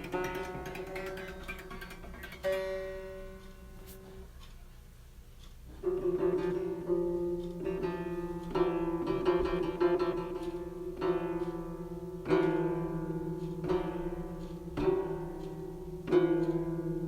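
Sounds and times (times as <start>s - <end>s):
plucked string instrument: 0.0s - 4.3s, 5.8s - 17.0s.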